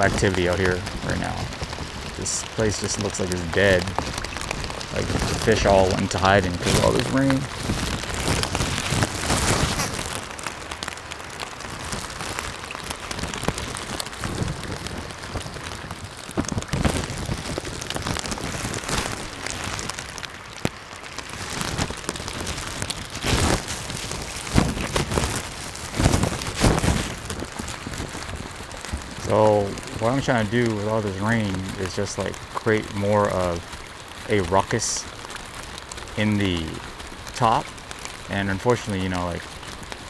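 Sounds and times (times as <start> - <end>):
raindrops ticking: 0.0 - 40.0
steady rain falling: 0.0 - 40.0.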